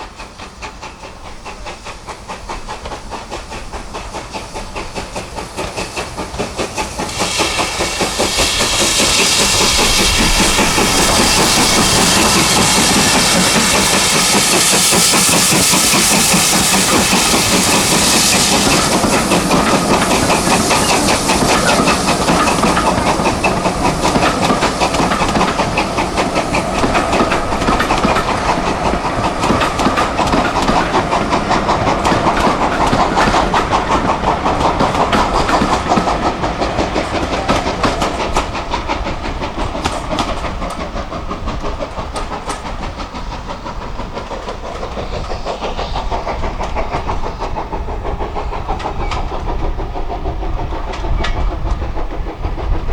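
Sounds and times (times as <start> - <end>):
train wheels clicking over rail joints: 0.0 - 52.9.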